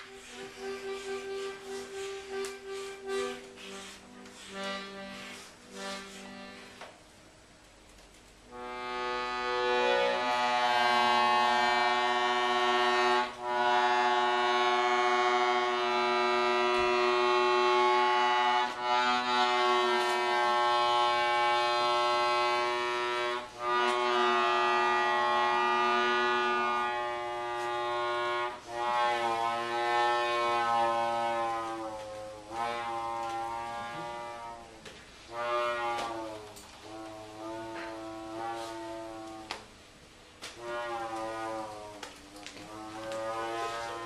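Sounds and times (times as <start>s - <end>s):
accordion sustained chords: 0.0s - 44.0s.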